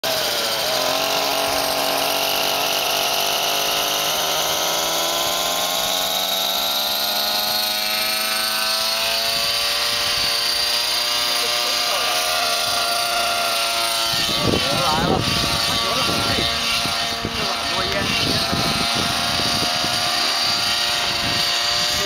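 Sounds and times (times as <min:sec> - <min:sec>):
model helicopter engine whining: 0:00.0 - 0:22.0.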